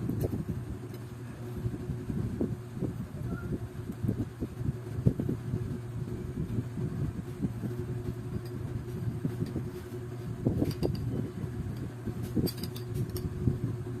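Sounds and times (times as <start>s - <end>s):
small electric fan motor humming: 0.0s - 14.0s.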